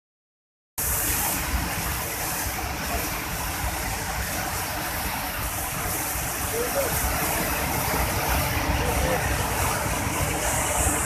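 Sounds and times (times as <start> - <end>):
waterfall rushing: 0.8 - 11.0.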